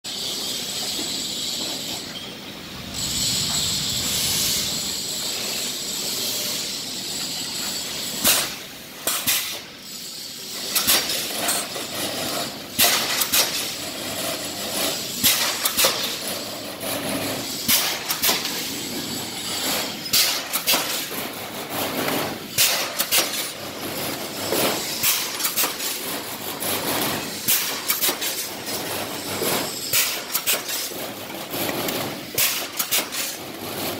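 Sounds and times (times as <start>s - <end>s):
welding machine hiss and hum: 0.1s - 33.9s.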